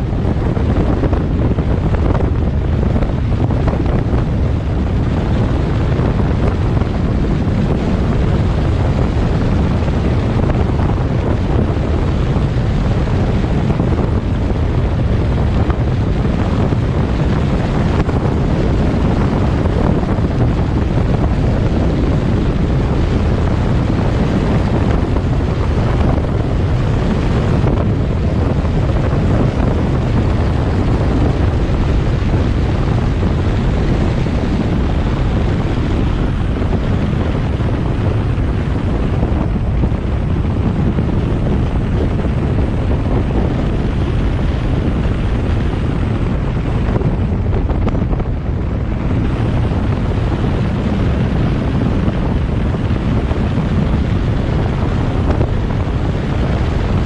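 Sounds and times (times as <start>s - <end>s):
road and engine noise: 0.0s - 57.0s
wind buffeting microphone: 0.0s - 57.0s.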